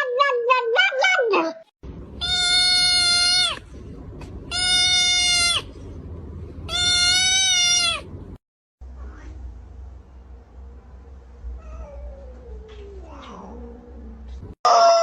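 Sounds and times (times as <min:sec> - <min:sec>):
low background rumble: 0:01.8 - 0:14.6.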